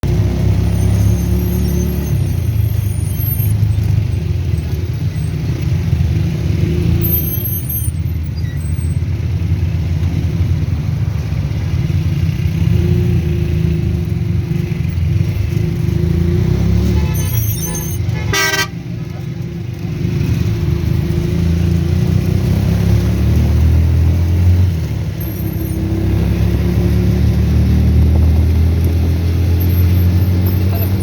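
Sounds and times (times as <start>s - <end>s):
road noise: 0.0s - 31.0s
vehicle motor rumble: 0.0s - 31.0s.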